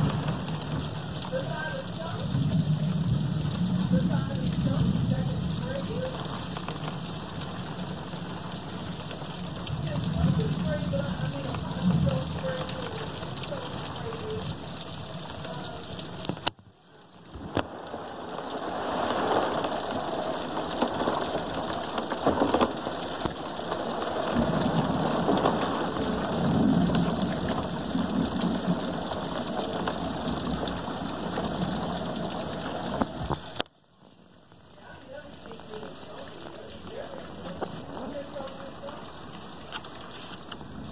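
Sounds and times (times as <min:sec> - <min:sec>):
steady rain: 0:00.0 - 0:40.9
thunder rumble: 0:00.0 - 0:40.9.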